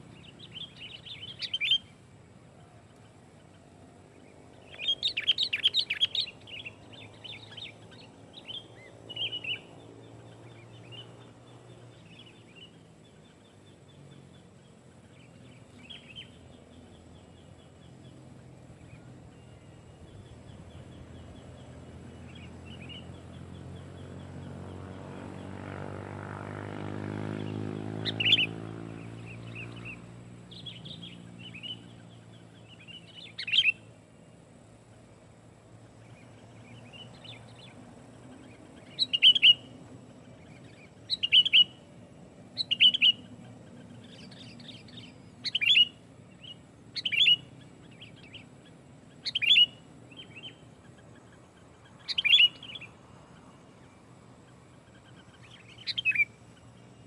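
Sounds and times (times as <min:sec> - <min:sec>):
bird chirping: 0:00.0 - 0:57.0
low engine-like hum: 0:00.0 - 0:57.0.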